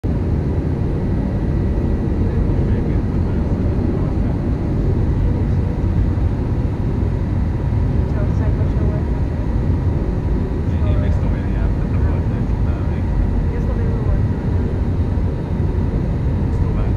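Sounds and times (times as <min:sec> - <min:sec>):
jet engines rumbling: 0:00.0 - 0:16.9
faint steady whine: 0:00.1 - 0:16.9.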